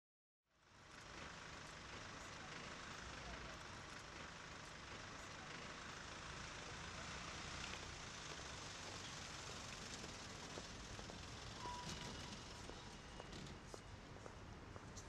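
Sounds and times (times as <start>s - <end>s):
distant traffic hum: 0.7s - 15.0s.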